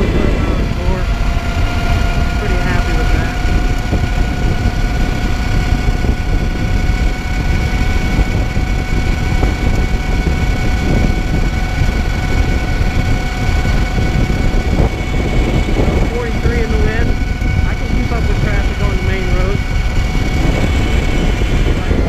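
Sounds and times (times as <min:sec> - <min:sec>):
electric motor whine: 0:00.0 - 0:22.0
wind buffeting microphone: 0:00.0 - 0:22.0.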